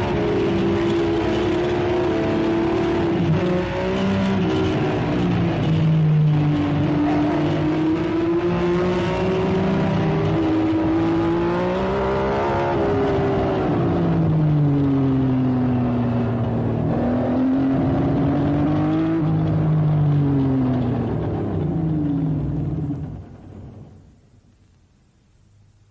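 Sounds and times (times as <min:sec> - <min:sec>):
racing car engine revving: 0:00.0 - 0:23.4.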